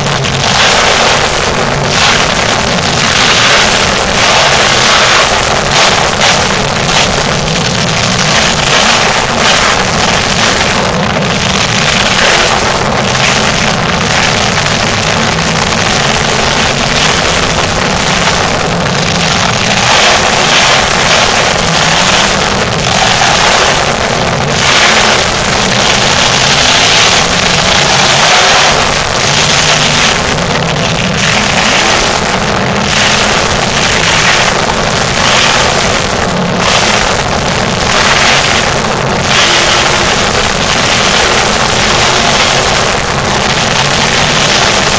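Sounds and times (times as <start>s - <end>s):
monster truck engine revving: 0.0s - 44.9s.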